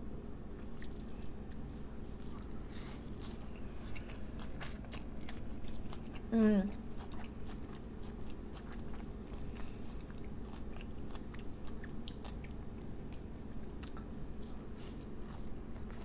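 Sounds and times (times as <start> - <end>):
close chewing with wet mouth clicks: 0.6 - 16.0.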